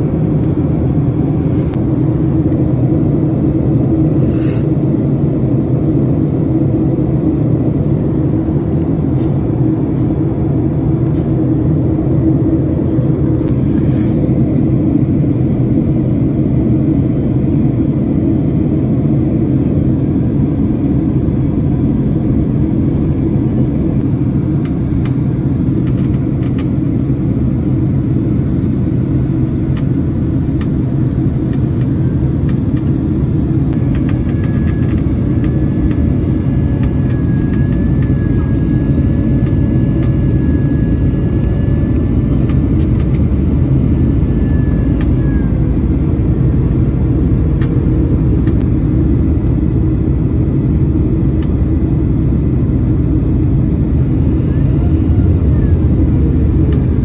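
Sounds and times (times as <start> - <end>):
aircraft cabin engine and airflow roar: 0.0 - 57.0
faint wavering whine: 7.7 - 57.0.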